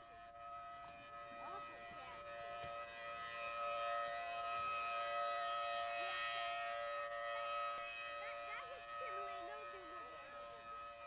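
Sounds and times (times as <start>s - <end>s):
civil defense siren: 0.0s - 11.0s.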